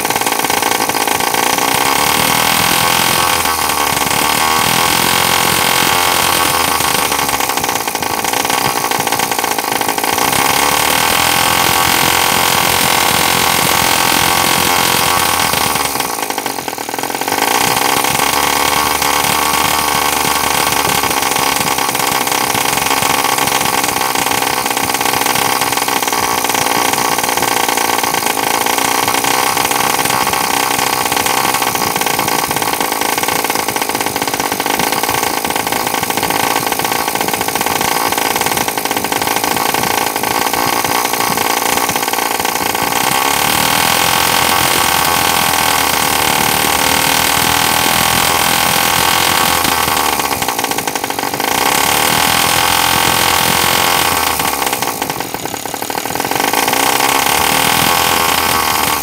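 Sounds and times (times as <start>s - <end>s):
model engine buzzing: 0.0s - 59.0s.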